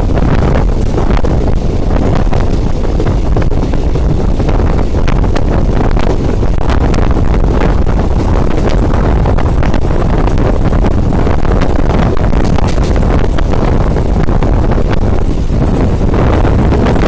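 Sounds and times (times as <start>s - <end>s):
train running on track: 0.0s - 17.0s
wind buffeting microphone: 0.0s - 17.0s.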